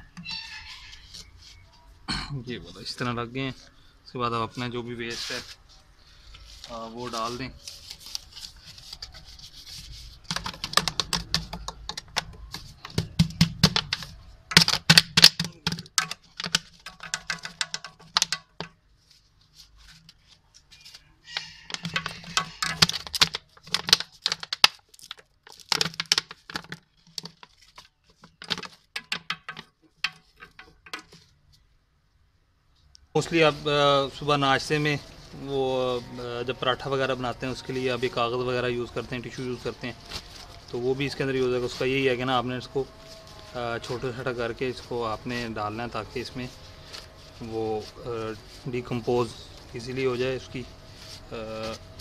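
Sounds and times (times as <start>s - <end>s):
plastic bag crackling and rustling: 4.6s - 31.4s, 33.2s - 52.0s.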